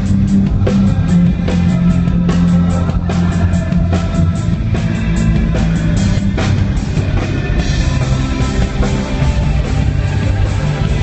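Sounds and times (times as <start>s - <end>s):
drum kit beat: 0.0s - 11.0s
electric guitar: 0.0s - 11.0s
heavy bass notes: 0.0s - 11.0s.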